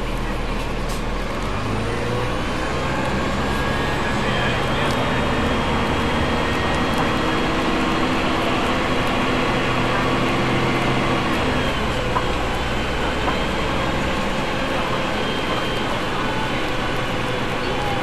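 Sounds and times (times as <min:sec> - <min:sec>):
bus engine running: 0:00.0 - 0:18.0.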